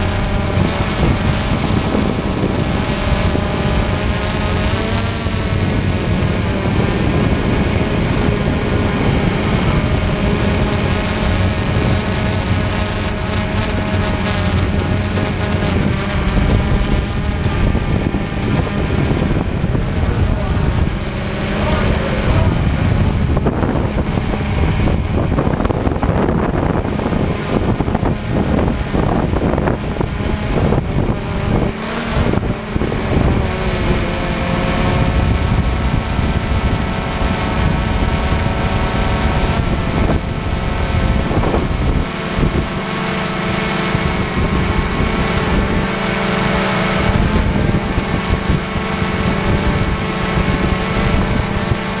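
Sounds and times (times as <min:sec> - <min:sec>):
tractor engine running under load: 0:00.0 - 0:52.0
wind buffeting microphone: 0:00.0 - 0:52.0.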